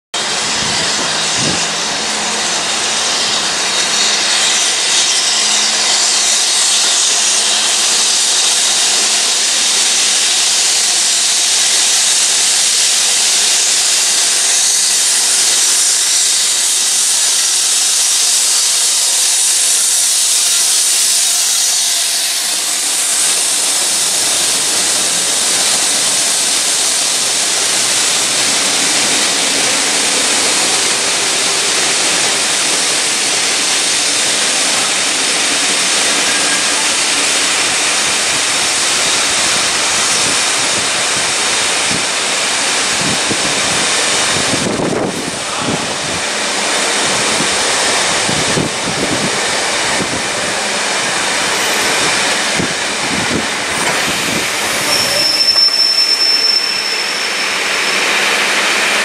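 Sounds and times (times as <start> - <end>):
steam locomotive hissing: 0.2 - 59.0.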